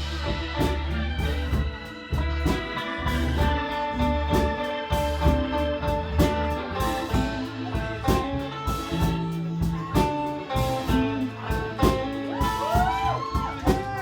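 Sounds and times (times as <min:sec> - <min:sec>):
electric guitar lead: 0:00.0 - 0:14.0
live rock band playing: 0:00.0 - 0:14.0.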